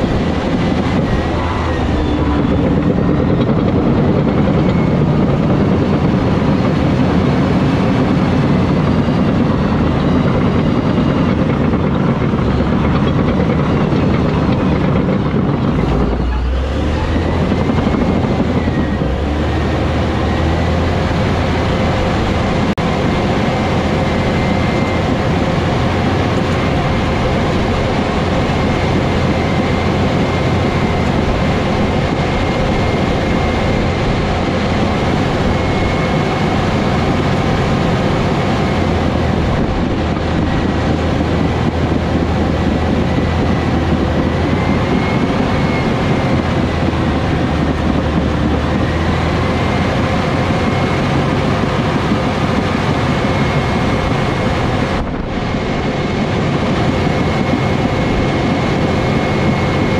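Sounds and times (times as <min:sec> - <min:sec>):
bulldozer engine running: 0:00.0 - 0:59.9.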